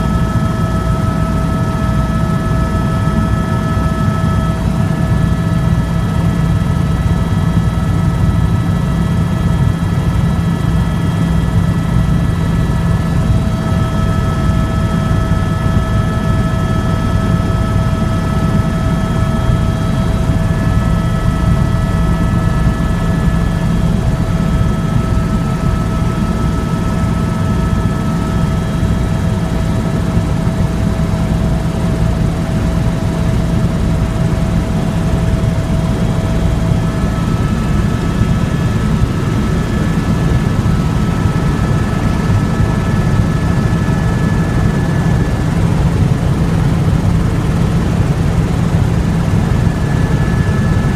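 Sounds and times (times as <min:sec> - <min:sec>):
helicopter rotor throb: 0:00.0 - 0:50.9.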